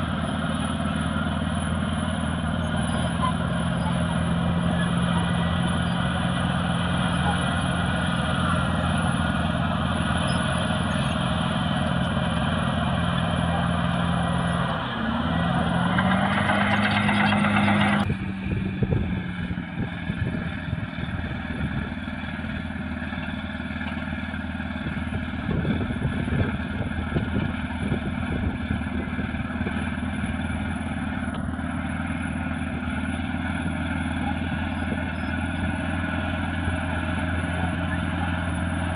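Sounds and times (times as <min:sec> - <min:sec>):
bulldozer diesel engine: 0:00.0 - 0:38.9.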